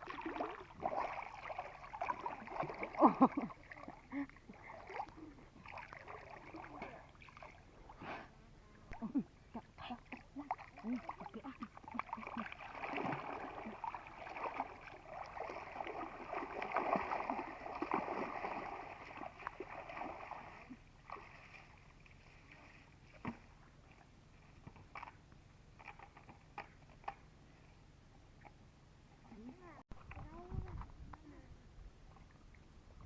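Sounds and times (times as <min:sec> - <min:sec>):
water splashing and sloshing: 0:00.0 - 0:08.1, 0:09.0 - 0:27.3, 0:32.0 - 0:33.0.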